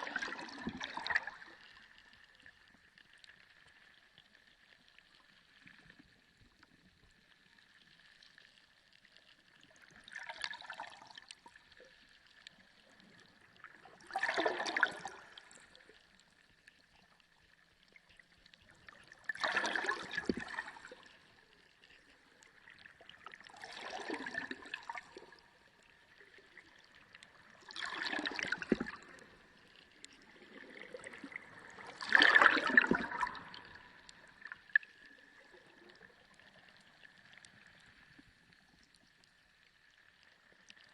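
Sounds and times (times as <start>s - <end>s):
underwater water wash: 0.0s - 40.9s.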